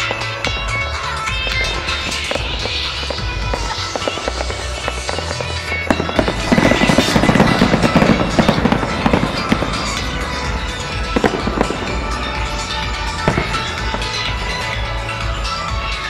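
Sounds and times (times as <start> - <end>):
fireworks bursting: 0.0 - 16.0
music with steady bass: 0.0 - 16.0.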